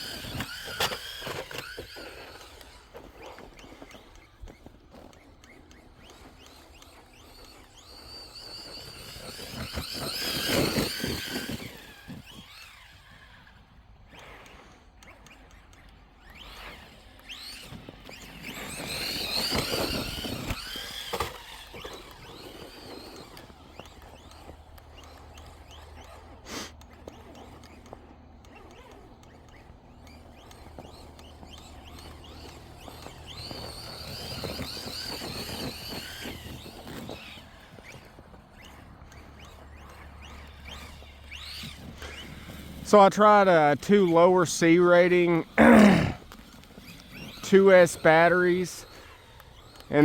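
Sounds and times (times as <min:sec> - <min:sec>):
tyres crunching snow: 0:00.0 - 0:13.6, 0:14.2 - 0:50.0
electric toy truck motor whine: 0:00.0 - 0:50.0.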